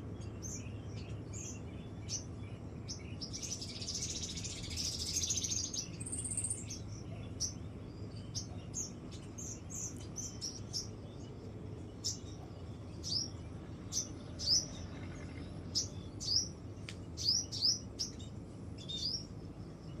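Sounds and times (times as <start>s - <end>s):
birds chirping: 0.0s - 20.0s
low background noise: 0.0s - 20.0s.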